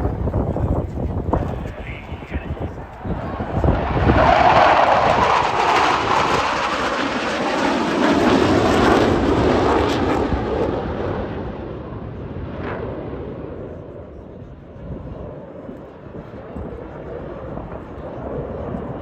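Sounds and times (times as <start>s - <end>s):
airplane flying past: 1.6s - 19.0s.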